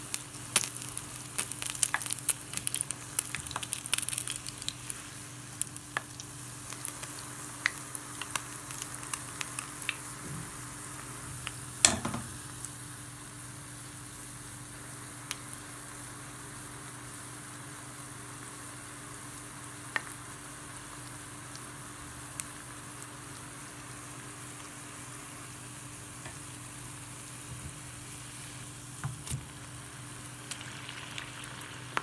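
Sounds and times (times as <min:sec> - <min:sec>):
batter sizzling in hot oil: 0:00.0 - 0:32.0.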